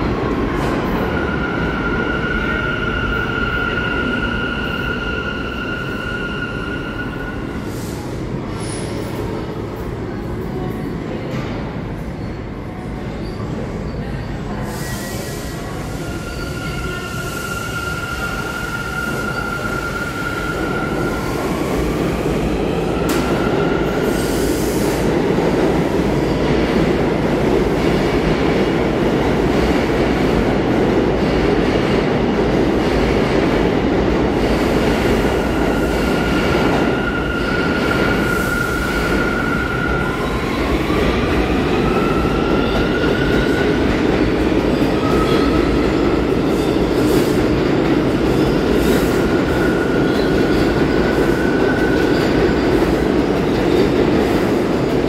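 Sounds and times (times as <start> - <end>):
subway train wheels rumbling: 0.0 - 55.0.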